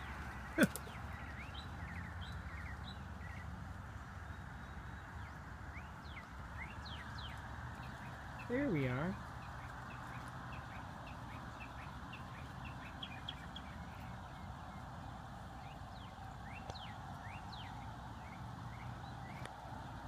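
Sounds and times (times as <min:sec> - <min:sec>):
small birds chirping: 0:00.0 - 0:20.0
sweeping bird calls: 0:00.0 - 0:20.0.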